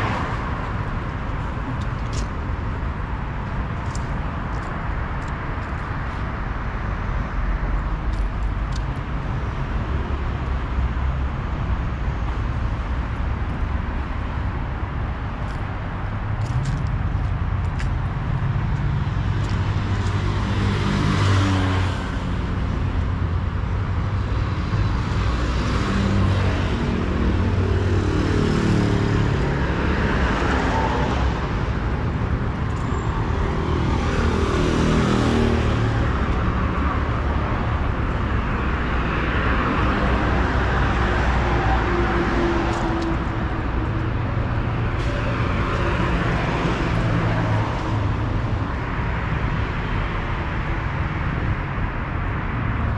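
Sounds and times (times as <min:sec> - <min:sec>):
steady road noise: 0:00.0 - 0:52.9.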